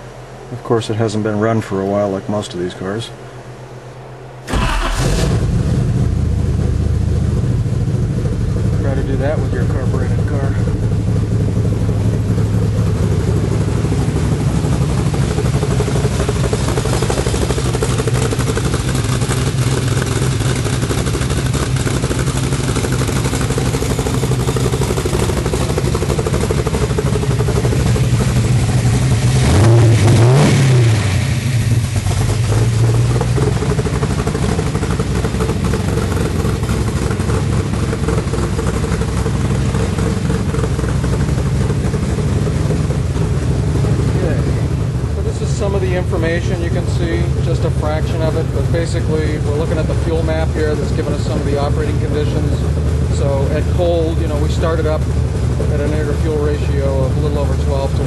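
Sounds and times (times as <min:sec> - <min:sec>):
car engine idling: 0:00.0 - 0:58.0
engine revving: 0:04.4 - 0:58.0.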